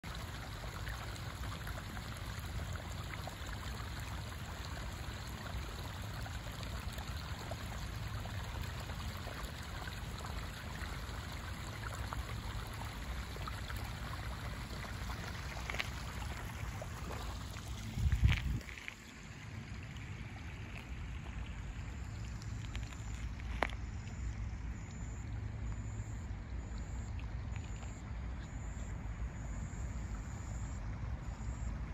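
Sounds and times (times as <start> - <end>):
stream of water running: 0.0 - 31.9.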